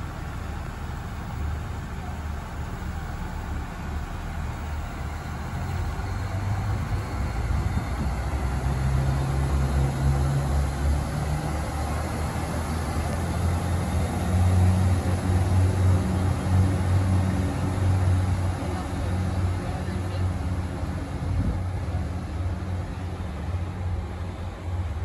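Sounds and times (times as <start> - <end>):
diesel train engines accelerating: 0.0 - 25.0.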